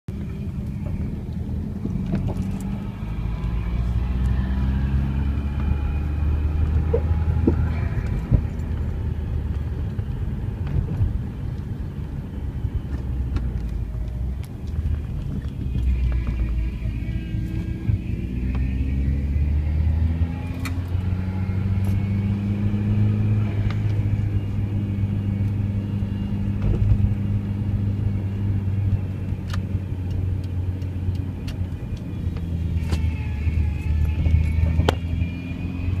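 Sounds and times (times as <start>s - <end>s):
car engine hum: 0.1s - 36.0s
power steering whine: 0.1s - 36.0s.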